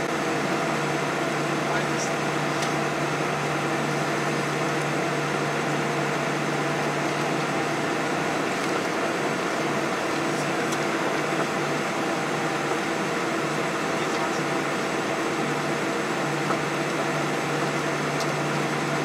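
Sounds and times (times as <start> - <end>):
jet engines at low power: 0.0 - 19.0.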